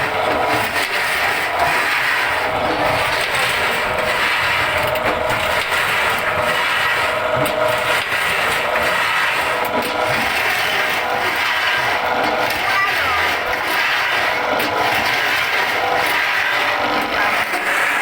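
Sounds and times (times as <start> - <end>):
wood-shaving machine motor whine: 0.0 - 18.0.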